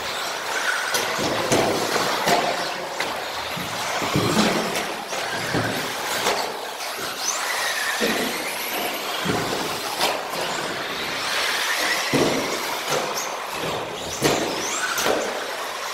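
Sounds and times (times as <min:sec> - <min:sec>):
electric motors whining: 0:00.0 - 0:15.9.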